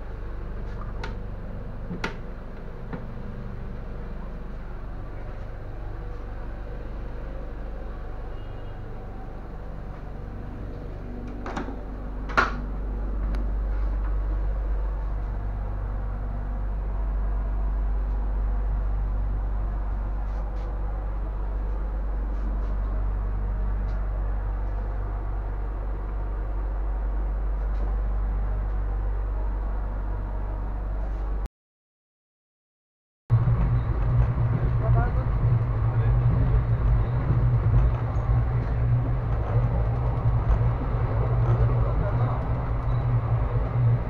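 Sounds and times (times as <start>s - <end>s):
train coach rumbling: 0.0s - 31.4s, 33.3s - 44.0s.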